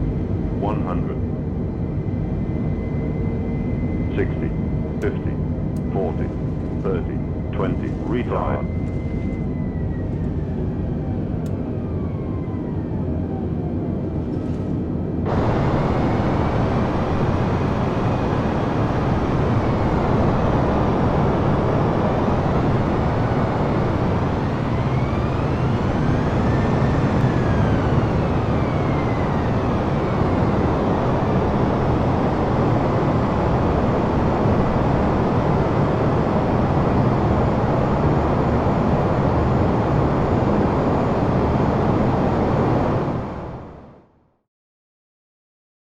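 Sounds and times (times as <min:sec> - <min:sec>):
jet engine and airflow rush: 0:00.0 - 0:44.2
jet engine whine: 0:00.0 - 0:44.4.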